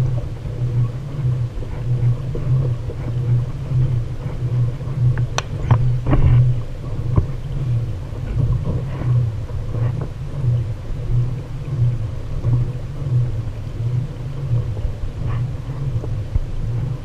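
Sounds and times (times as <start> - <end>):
kayak moving over choppy water: 0.0 - 17.0
wind: 0.0 - 17.0.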